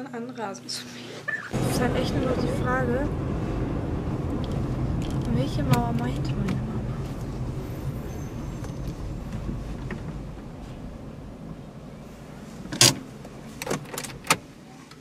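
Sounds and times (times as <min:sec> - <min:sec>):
car engine humming: 0:01.3 - 0:14.8.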